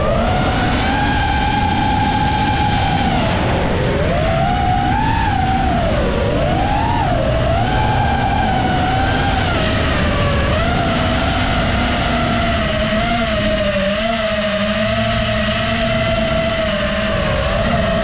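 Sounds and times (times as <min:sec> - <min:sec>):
quadcopter motors whining: 0:00.0 - 0:18.0
steady low rumble: 0:00.0 - 0:18.0.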